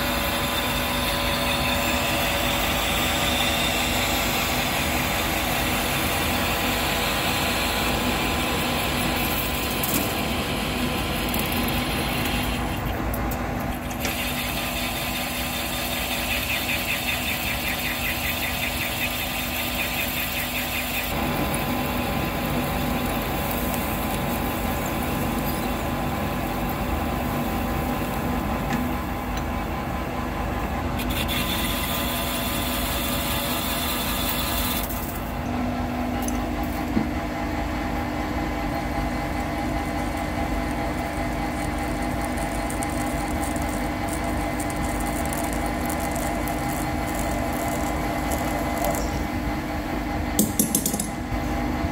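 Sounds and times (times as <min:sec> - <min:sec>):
metalworking machine running: 0:00.0 - 0:51.9.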